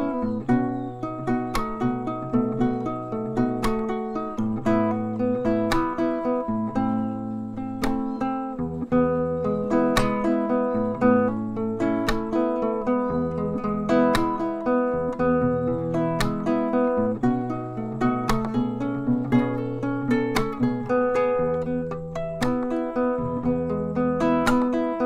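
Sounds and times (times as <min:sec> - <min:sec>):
classical guitar fingerstyle: 0:00.0 - 0:25.0.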